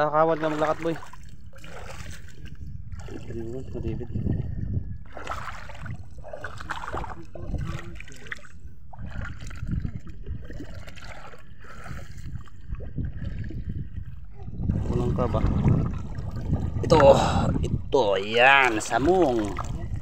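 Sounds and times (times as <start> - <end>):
legs wading through water: 0.0 - 20.0
steady low rumble: 2.4 - 20.0.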